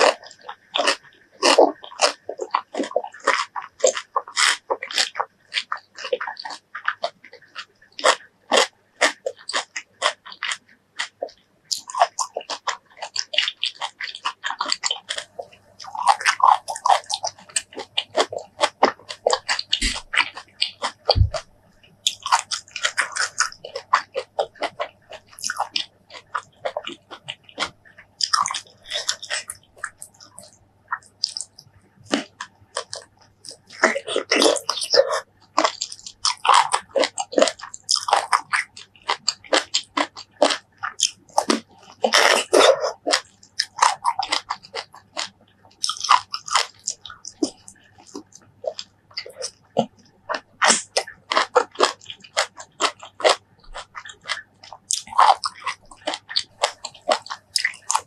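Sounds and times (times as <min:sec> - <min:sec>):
crunchy fruit eating: 0:00.0 - 0:58.0.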